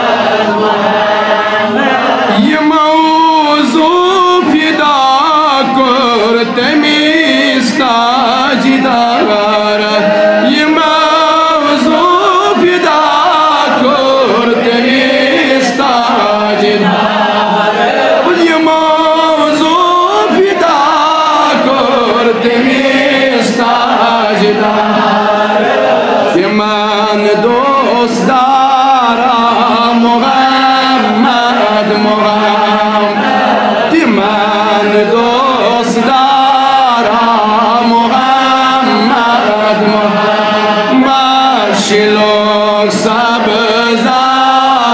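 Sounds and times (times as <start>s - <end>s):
man singing devotional song: 0.0s - 44.9s.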